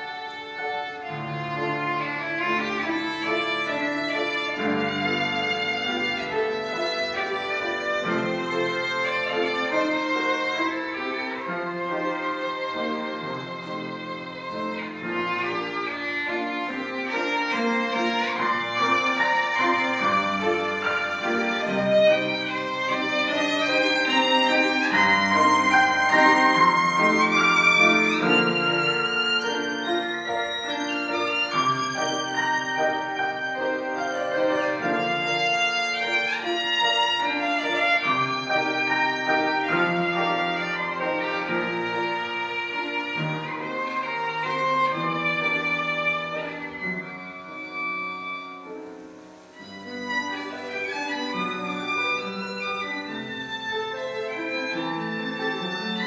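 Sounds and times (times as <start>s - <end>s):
piano accompaniment: 0.0s - 56.0s
violin melody: 0.0s - 56.0s.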